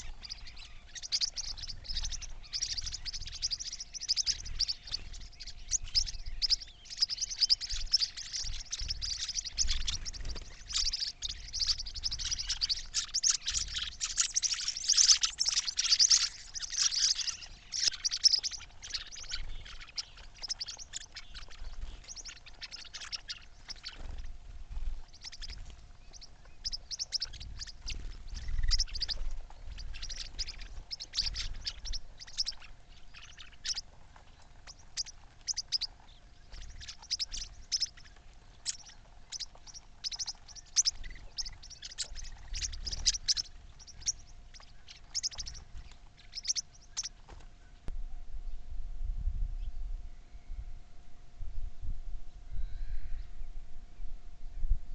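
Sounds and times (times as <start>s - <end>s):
small birds chirping and twittering: 0.0s - 48.7s, 52.3s - 54.9s.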